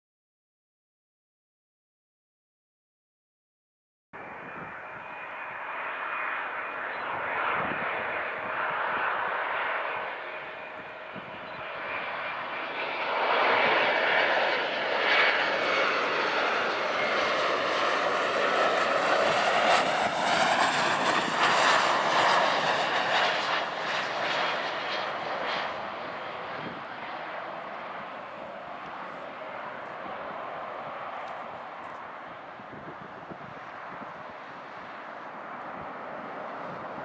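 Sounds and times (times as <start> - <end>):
jet airliner flying past: 4.2 - 37.0.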